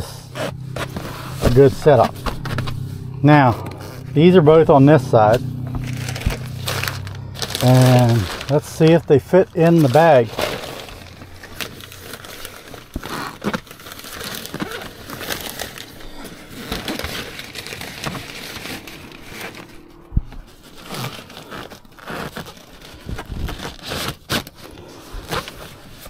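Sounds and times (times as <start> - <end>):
nylon fabric rustling: 0.0 - 26.0.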